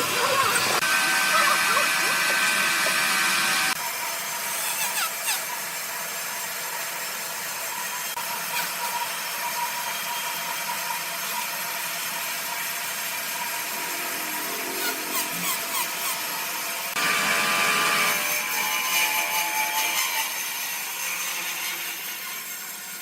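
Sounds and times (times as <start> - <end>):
sawmill saw cutting log: 0.0 - 23.0.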